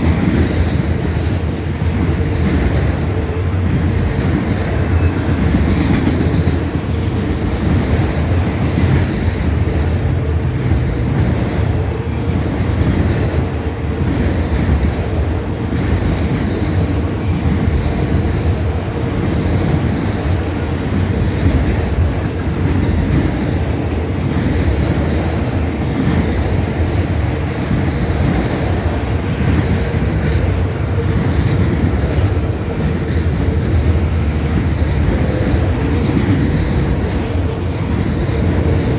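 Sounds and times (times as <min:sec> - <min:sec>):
wheels clicking over rail joints: 0:00.0 - 0:38.9.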